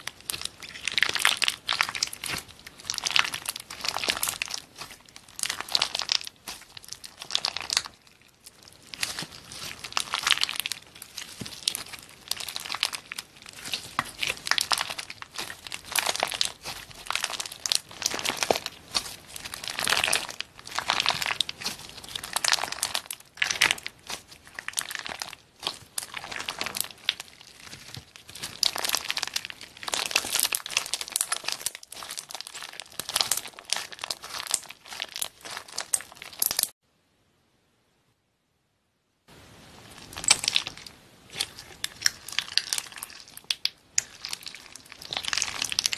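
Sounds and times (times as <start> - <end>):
slime crinkling and crackling: 0.0 - 36.8, 39.8 - 45.9.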